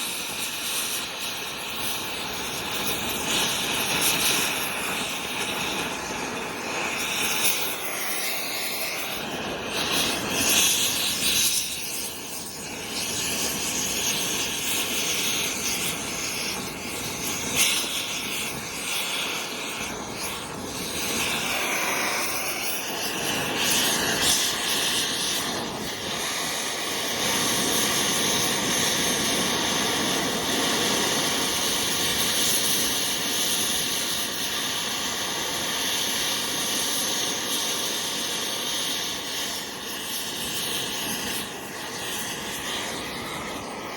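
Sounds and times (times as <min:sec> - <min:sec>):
torch flame hissing: 0:00.0 - 0:43.9.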